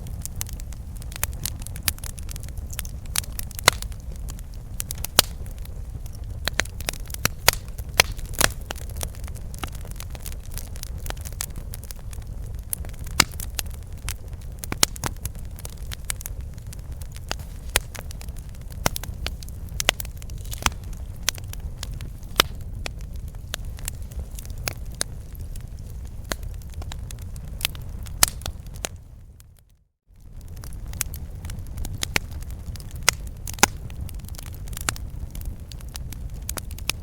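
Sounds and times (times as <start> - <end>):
campfire crackling and popping: 0.0 - 37.0
low rumble of fire: 0.0 - 37.0.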